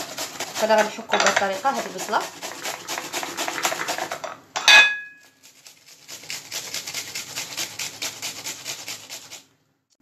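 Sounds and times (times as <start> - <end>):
onion grated on metal grater: 0.0 - 4.4, 5.2 - 9.6.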